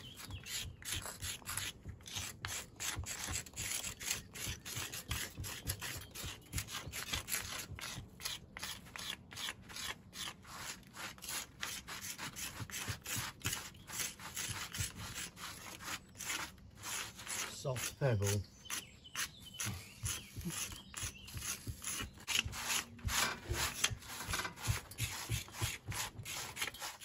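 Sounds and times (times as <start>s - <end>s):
tools scraping mortar joints: 0.0s - 27.0s.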